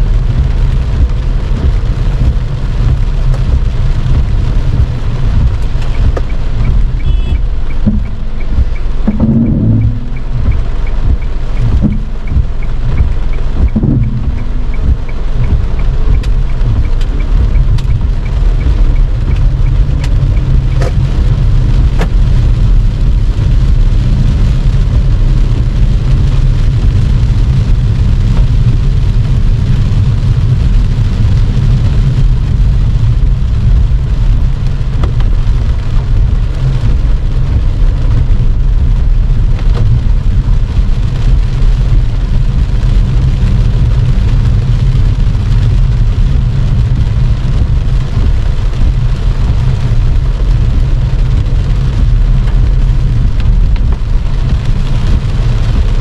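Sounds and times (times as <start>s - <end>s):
heavy rain on car roof: 0.0s - 56.0s
low rumble of car tyres: 0.0s - 56.0s
light regular ticking: 0.1s - 56.0s.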